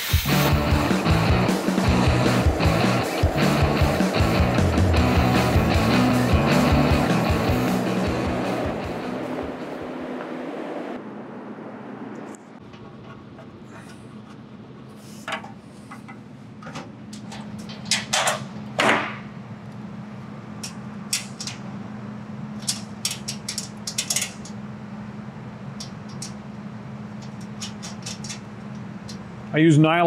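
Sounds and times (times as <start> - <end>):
steady low hum: 0.1 - 30.0.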